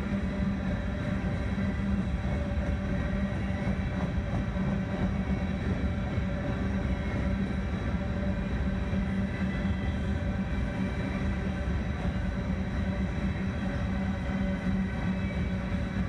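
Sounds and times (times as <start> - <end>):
steel wheels rumbling on rails: 0.0 - 16.0.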